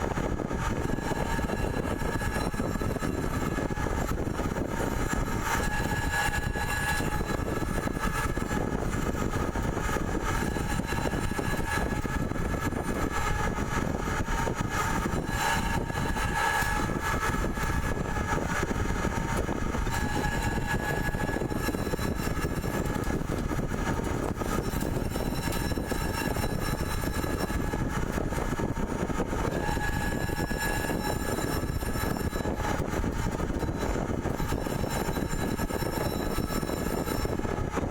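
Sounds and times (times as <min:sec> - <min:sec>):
faint high whining tones: 0:00.0 - 0:37.9
pipe threading machine running: 0:00.0 - 0:37.9.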